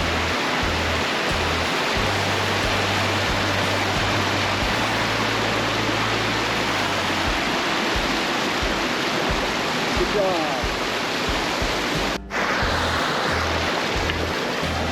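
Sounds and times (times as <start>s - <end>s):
creek water rushing: 0.0s - 14.9s.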